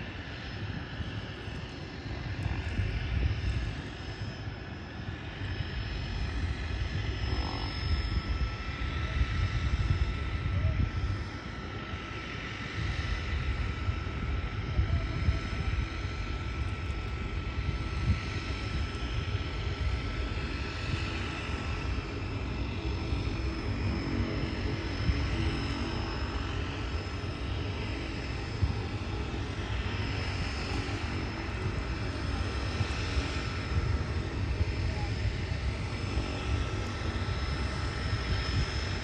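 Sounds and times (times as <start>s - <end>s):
turboprop engine running: 0.0s - 39.0s.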